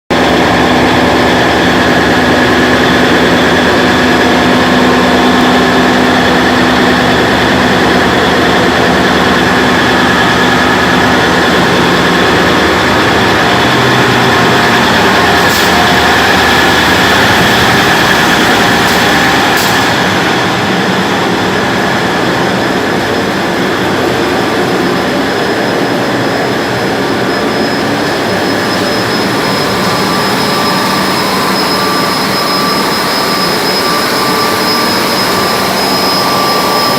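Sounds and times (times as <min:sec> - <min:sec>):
ship engine running: 0:00.1 - 0:36.9.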